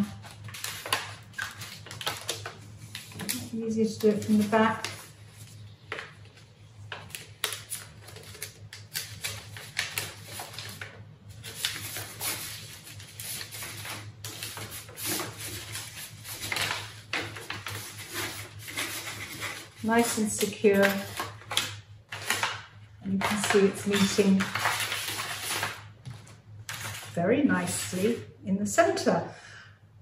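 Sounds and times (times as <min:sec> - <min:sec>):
paper and foil crinkling: 0:00.0 - 0:28.3.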